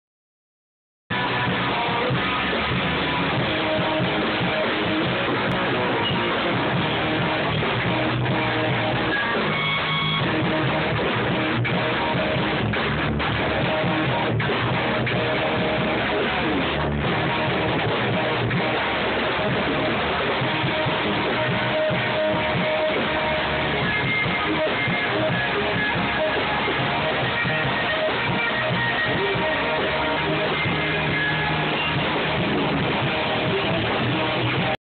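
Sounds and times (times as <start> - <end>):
strummed electric guitar: 1.1 - 34.8.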